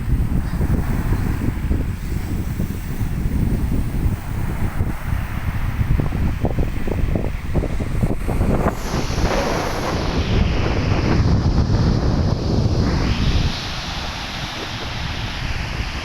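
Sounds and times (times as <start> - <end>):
rough sea surf breaking: 0.0 - 16.0
wind buffeting microphone: 0.0 - 16.0.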